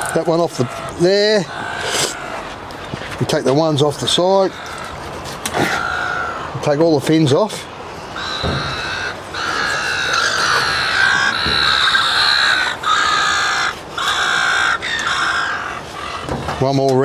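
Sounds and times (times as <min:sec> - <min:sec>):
gulls calling: 0:00.0 - 0:17.0.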